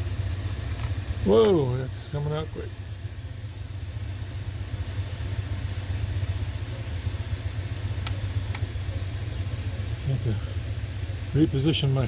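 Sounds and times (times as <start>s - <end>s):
coolers roaring: 0.0s - 12.0s.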